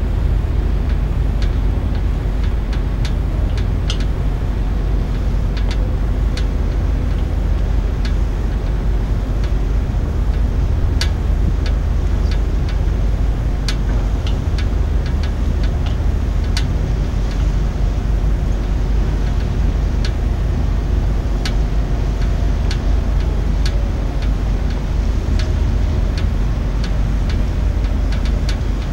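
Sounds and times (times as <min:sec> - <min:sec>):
low outdoor rumble: 0:00.0 - 0:28.9.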